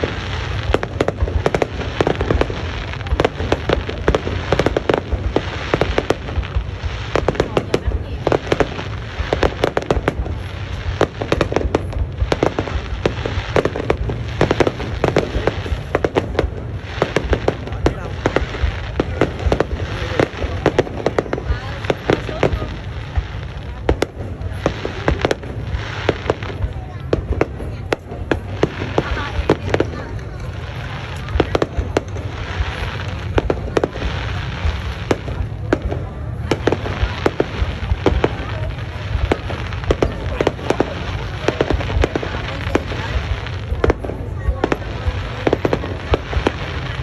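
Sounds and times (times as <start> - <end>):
fireworks bangs and crackles: 0.0 - 47.0
steady low rumble: 0.0 - 47.0.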